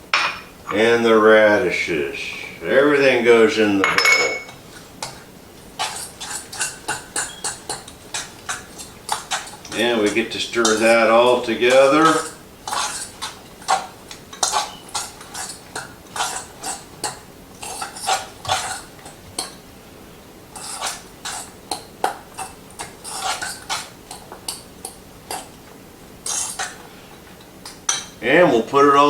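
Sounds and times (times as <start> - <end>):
utensil scraping and clinking bowl: 2.3 - 19.6, 20.5 - 25.6, 26.2 - 28.4.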